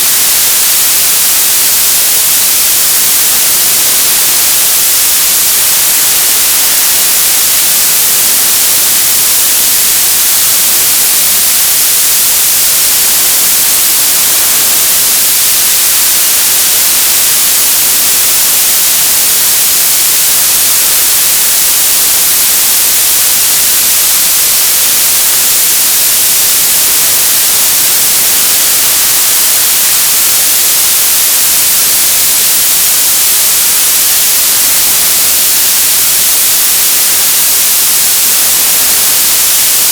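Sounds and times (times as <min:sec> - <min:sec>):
tv static hiss: 0:00.0 - 0:39.9.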